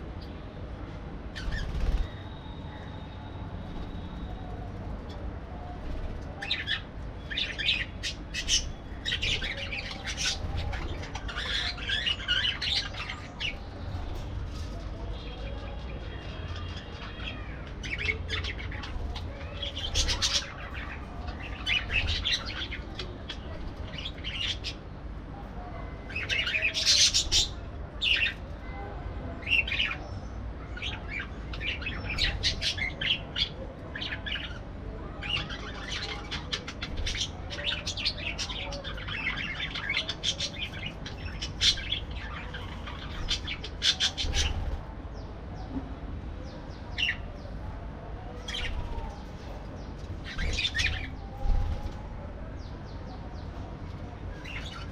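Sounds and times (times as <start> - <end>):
parakeets chirping and chattering: 1.3 - 25.2, 26.0 - 28.6, 30.7 - 45.3, 46.8 - 47.6, 48.3 - 52.0, 54.2 - 54.9.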